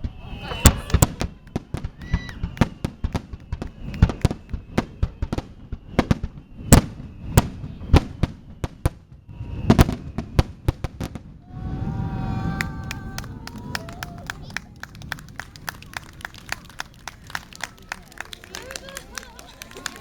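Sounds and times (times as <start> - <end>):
crowd voices: 0.0 - 10.0, 11.4 - 20.0
fireworks bangs: 0.0 - 20.0.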